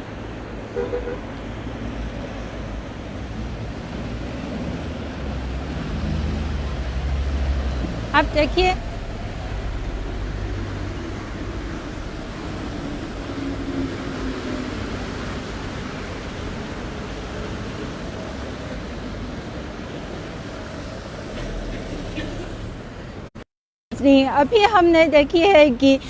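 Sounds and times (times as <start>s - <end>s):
monorail train running past: 0.0s - 23.3s.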